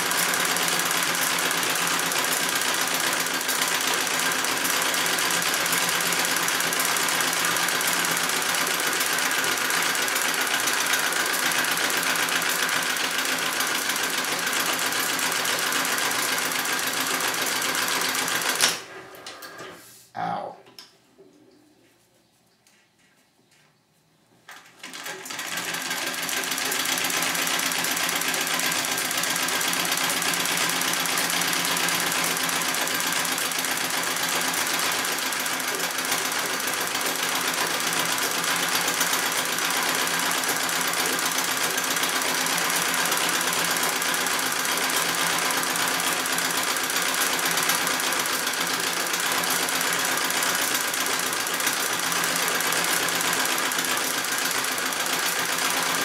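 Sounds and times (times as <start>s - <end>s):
treadle sewing machine running: 0.0s - 19.8s, 24.6s - 56.0s.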